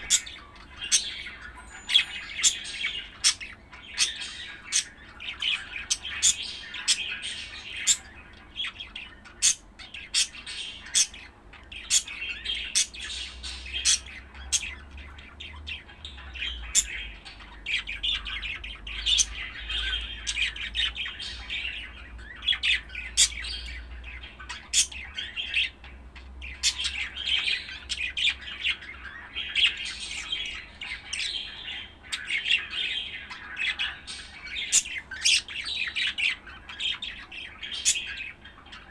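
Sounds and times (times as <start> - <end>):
budgerigar chattering and warbling: 0.0 - 38.9.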